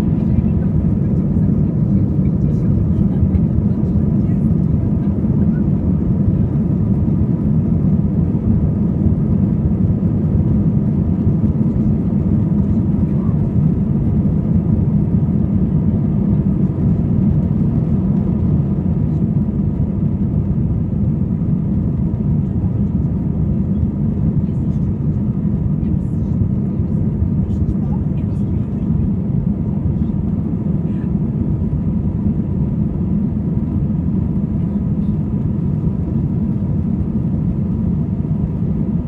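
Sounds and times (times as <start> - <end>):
airplane cabin roar: 0.0 - 39.0.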